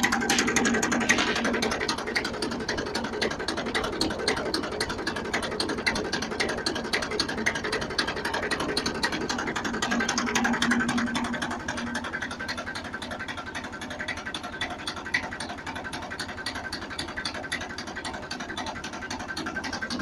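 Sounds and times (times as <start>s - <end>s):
tractor engine low tone: 0.0s - 20.0s.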